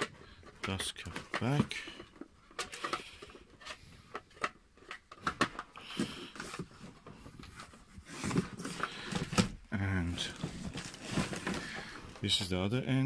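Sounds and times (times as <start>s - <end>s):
cardboard rustling: 0.0s - 12.3s.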